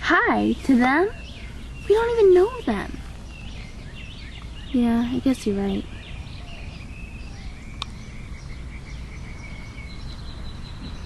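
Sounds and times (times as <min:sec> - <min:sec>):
birds chirping: 0:00.0 - 0:11.0
steady high-pitched calls: 0:00.0 - 0:11.0.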